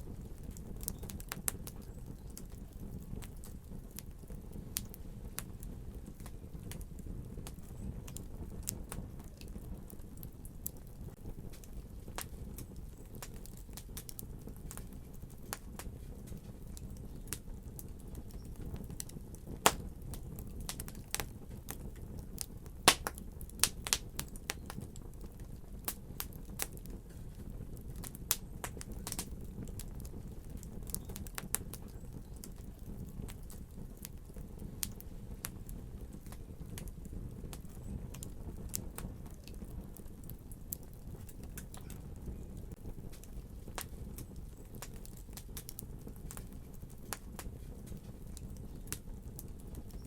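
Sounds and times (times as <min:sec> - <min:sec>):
fire crackling and popping: 0:00.0 - 0:50.0.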